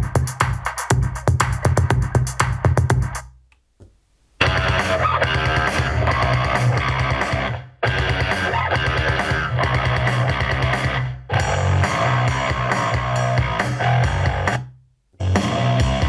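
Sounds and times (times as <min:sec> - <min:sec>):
rock music from speaker: 0:00.0 - 0:03.2, 0:04.4 - 0:16.0.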